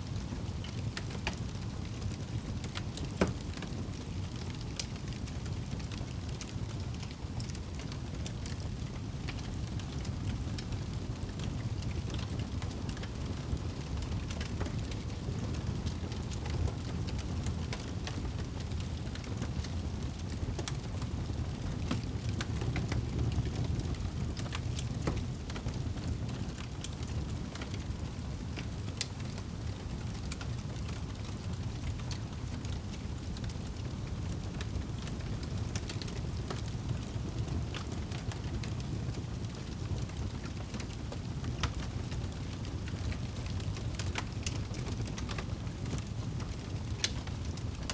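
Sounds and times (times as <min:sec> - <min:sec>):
burning logs crackling and popping: 0:00.0 - 0:47.9
low rumble of flames: 0:00.0 - 0:47.9.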